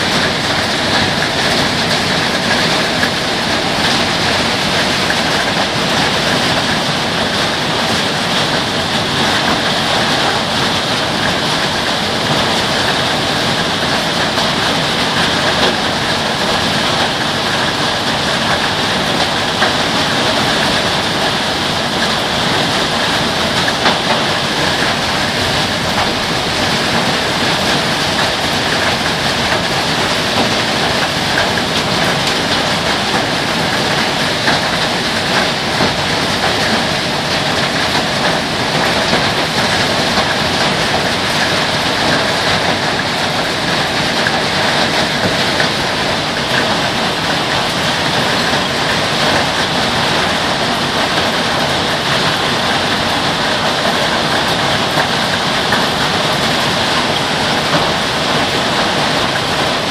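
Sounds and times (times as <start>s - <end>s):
heavy rain and hail: 0.0s - 59.9s
sharp hail ticks: 0.0s - 59.9s.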